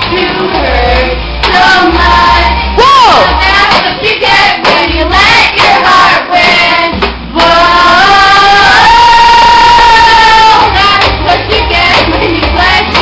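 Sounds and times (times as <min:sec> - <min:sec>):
steady bass: 0:00.0 - 0:13.0
young female voices singing: 0:00.0 - 0:13.0.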